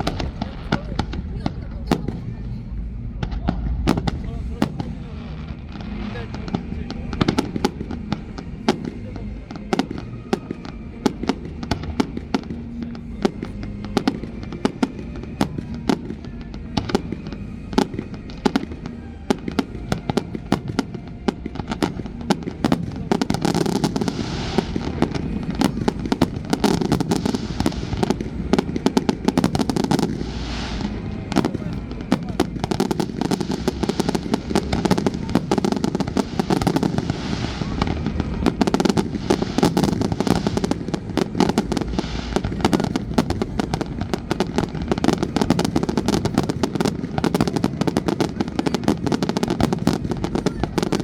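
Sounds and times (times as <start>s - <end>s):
fireworks bursting: 0.0s - 51.0s
fireworks crackling: 0.0s - 51.0s.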